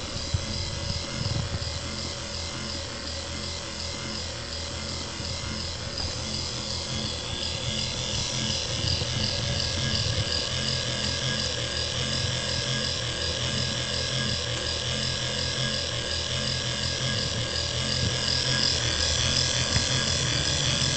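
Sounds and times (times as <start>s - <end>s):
warning light motor whirring: 0.0s - 20.9s.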